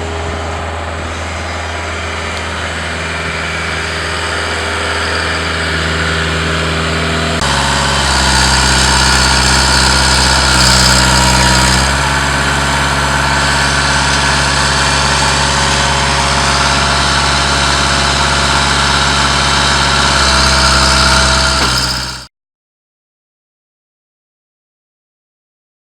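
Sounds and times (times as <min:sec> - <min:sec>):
mini excavator diesel engine running: 0:00.0 - 0:22.3.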